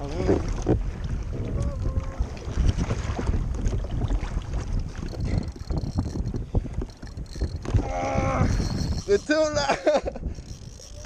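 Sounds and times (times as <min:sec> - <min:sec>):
water splashing against kayak hull: 0:00.0 - 0:09.5
wind buffeting microphone: 0:00.0 - 0:11.0.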